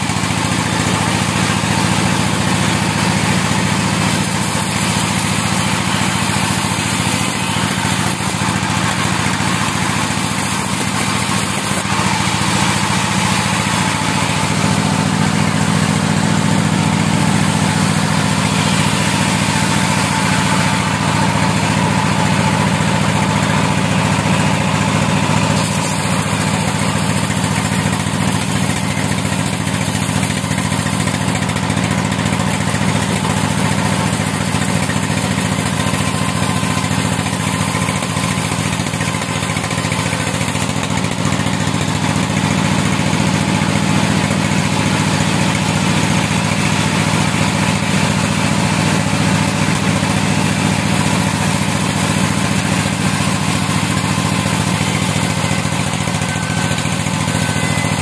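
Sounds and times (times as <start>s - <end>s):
band saw ripping plank: 0.0s - 58.0s.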